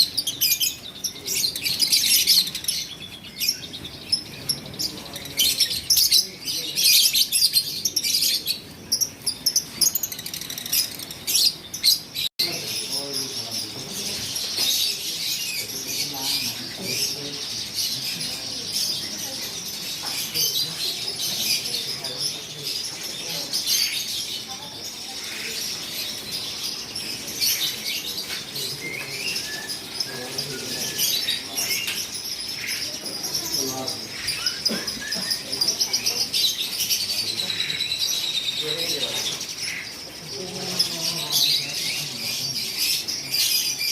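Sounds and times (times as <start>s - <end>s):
lovebirds chirping: 0.0s - 43.9s.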